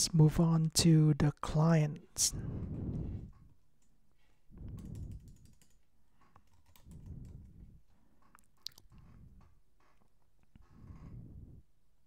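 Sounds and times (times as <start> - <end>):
soft low rumbles: 2.3 - 12.0.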